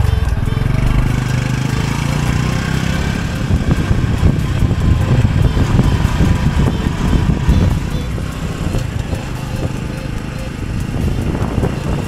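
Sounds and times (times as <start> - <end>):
motorcycle engine running: 0.0 - 12.0
wind on microphone: 0.0 - 12.0.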